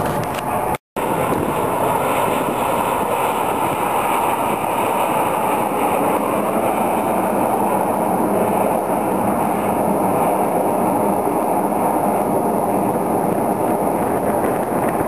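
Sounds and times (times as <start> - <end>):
jet engines flying overhead: 0.0 - 15.0.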